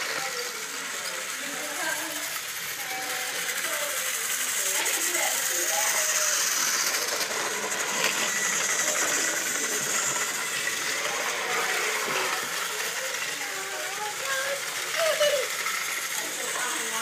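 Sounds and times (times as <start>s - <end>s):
toy train motors whirring: 0.0s - 17.0s.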